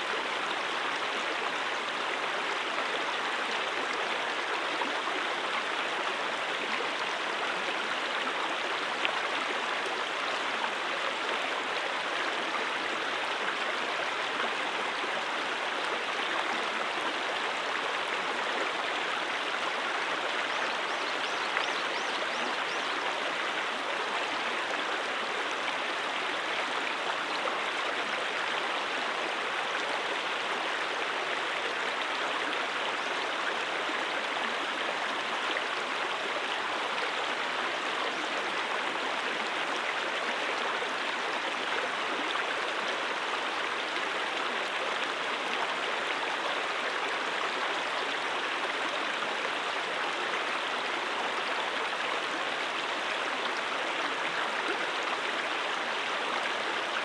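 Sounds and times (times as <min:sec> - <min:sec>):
brook water babbling: 0:00.0 - 0:57.0.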